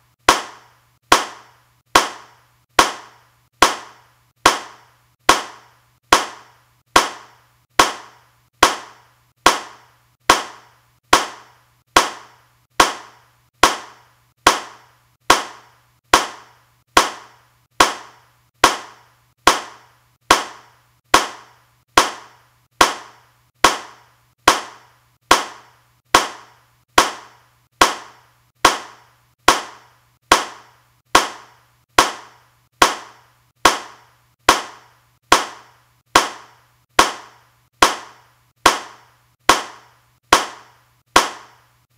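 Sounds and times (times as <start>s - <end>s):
hand claps: 0.3s - 25.6s, 26.2s - 41.6s.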